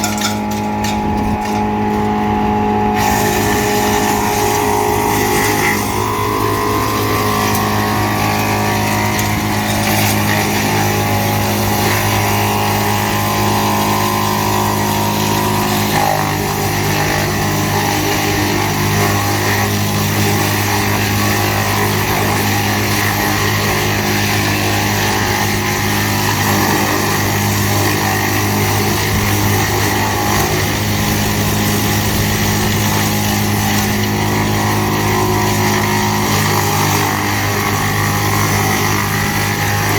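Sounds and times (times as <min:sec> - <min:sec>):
woodchipper chipping branches: 0:00.0 - 0:39.9.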